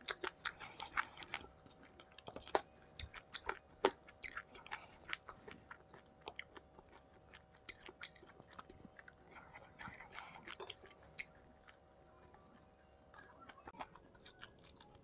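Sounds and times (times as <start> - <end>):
close chewing of food: 0.0 - 15.0
faint steady hum: 0.0 - 15.0.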